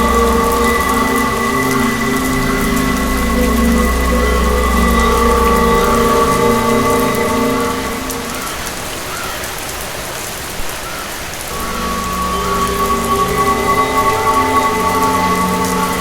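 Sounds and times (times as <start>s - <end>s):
eerie drone: 0.0s - 9.1s, 11.5s - 16.0s
heavy rain: 0.0s - 16.0s.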